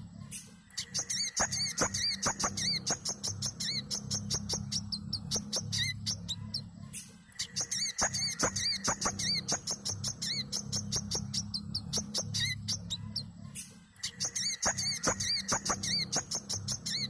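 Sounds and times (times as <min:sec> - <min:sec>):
steady low hum: 0:00.0 - 0:17.0
bird singing high chirps: 0:00.2 - 0:17.0.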